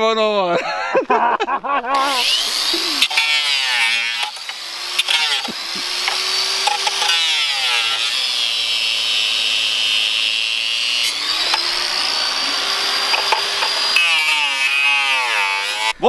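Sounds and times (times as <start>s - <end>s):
angle grinder cutting plastic: 1.9s - 16.0s.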